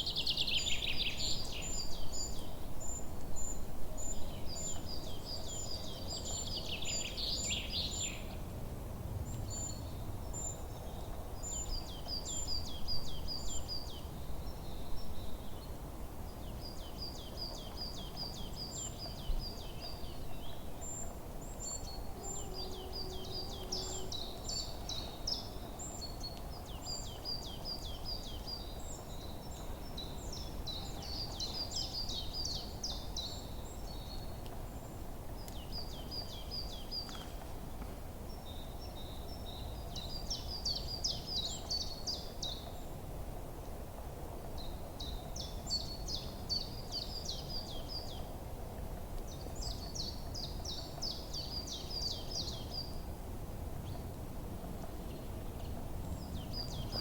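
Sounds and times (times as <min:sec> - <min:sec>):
low background noise: 0:00.0 - 0:57.0
songbirds chirping: 0:00.0 - 0:57.0.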